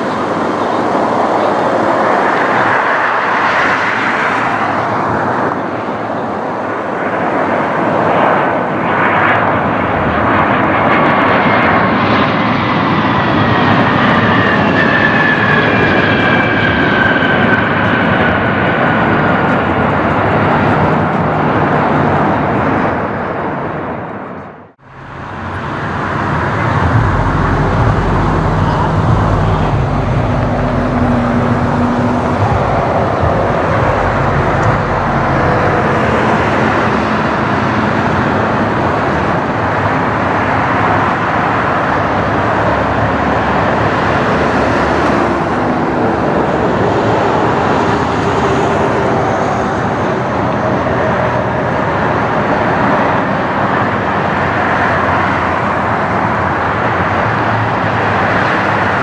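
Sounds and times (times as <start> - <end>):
steady jet engine hum: 0.0 - 23.7, 24.7 - 59.0
jet engines roaring past: 0.0 - 59.0.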